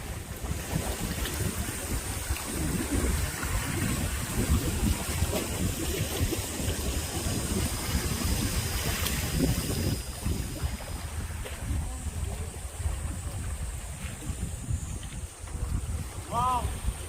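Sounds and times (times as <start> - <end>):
steady water noise: 0.0 - 17.0.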